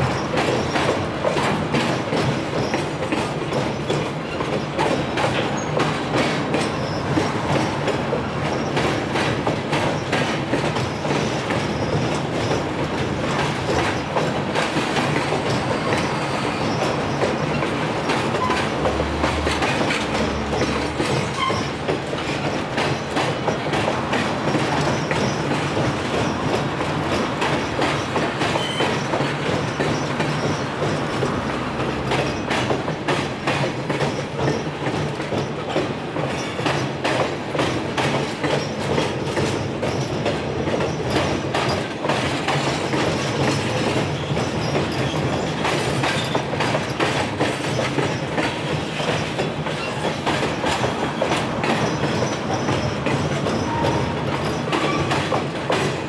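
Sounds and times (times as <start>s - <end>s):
clattering clicks and knocks: 0.0s - 56.0s
train wheels rumbling: 0.0s - 56.0s.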